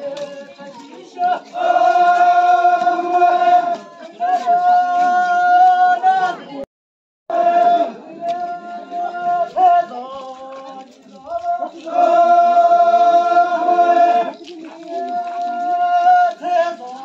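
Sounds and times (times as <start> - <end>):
group of voices chanting: 0.0 - 6.7, 7.3 - 17.0.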